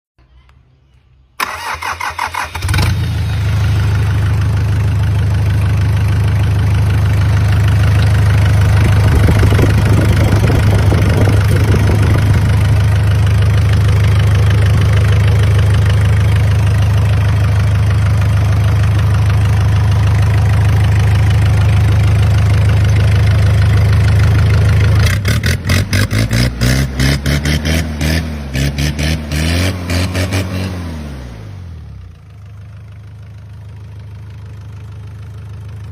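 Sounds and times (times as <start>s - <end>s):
diesel engine running: 1.4s - 35.9s.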